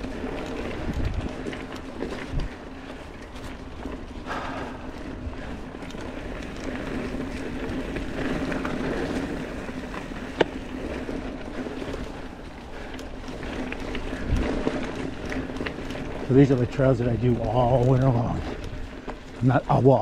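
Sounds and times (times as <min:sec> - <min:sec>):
bike tyres on dirt trail: 0:00.0 - 0:20.0.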